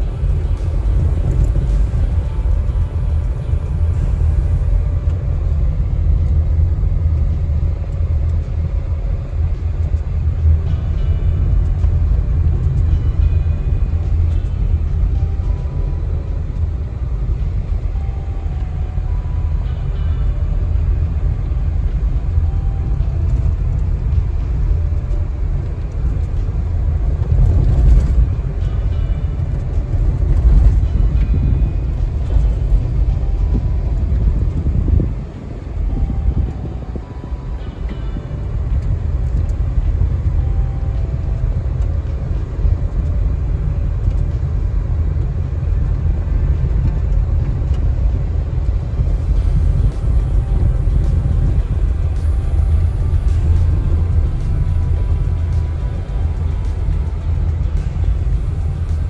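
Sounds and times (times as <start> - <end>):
car tyres and engine rumble: 0.0 - 59.0.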